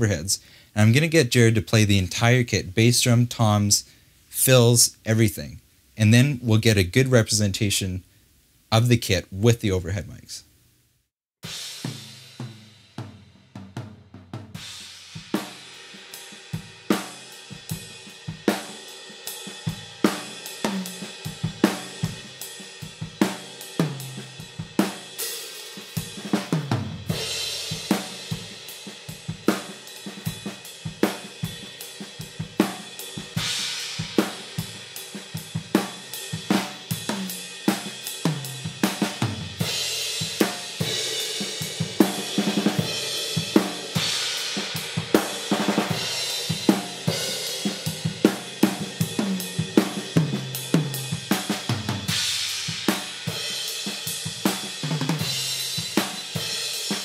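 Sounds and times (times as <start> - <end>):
drum kit groove: 0.0 - 5.4, 11.4 - 57.0.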